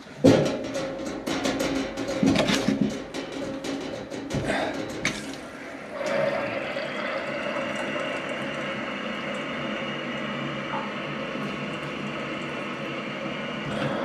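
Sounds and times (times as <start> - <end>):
water rushing through pipes: 0.0 - 14.0.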